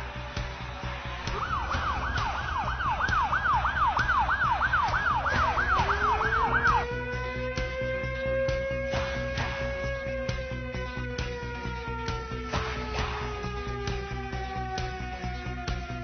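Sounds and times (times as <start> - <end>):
siren yelping: 1.2 - 16.0.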